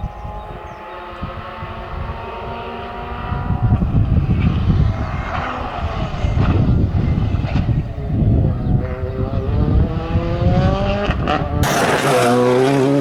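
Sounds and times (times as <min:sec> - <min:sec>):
rally car engine approaching: 0:00.0 - 0:13.0.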